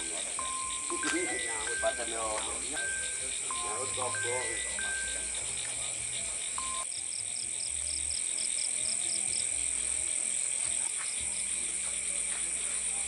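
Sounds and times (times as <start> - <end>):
insects droning: 0.0 - 13.0
pulsed insect chirp: 0.0 - 13.0.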